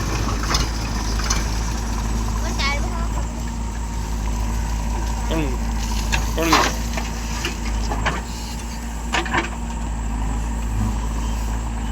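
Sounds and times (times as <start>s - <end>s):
heavy vehicle engine idling: 0.0s - 11.9s.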